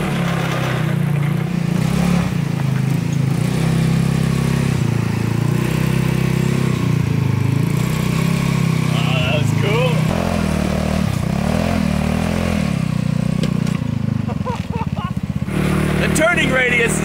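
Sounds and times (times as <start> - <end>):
go-kart engine running: 0.0 - 17.0.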